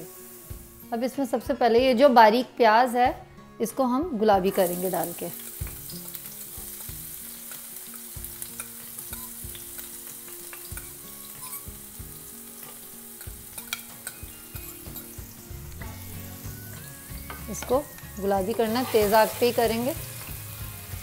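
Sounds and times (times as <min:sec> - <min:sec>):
onion sizzling in hot oil: 0:00.0 - 0:01.7, 0:04.4 - 0:21.0.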